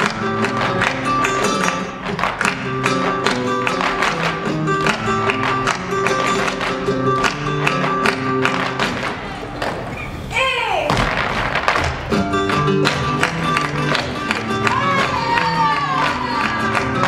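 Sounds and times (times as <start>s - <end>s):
flamenco acoustic guitar: 0.0s - 9.8s, 11.1s - 17.0s.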